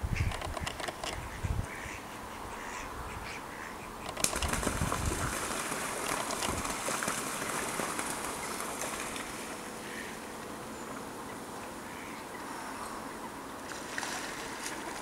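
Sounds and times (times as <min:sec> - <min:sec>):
waterbirds flapping and splashing: 0:02.6 - 0:15.0.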